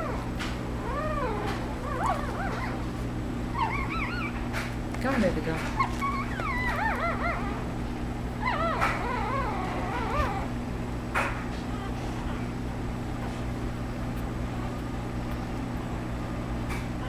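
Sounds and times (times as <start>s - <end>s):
dog whining: 0.0s - 4.7s, 5.6s - 17.0s
steady low hum: 0.0s - 17.0s.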